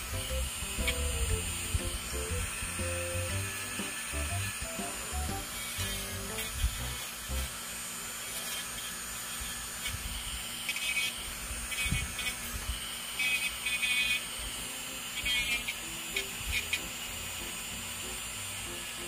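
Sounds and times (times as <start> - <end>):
drill bit grinding: 0.0 - 19.0
electric nail drill whining: 0.0 - 19.0.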